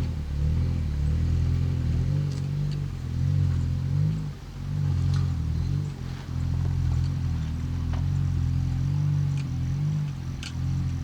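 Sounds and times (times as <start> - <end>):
car engine pulling at low revs: 0.0 - 11.0.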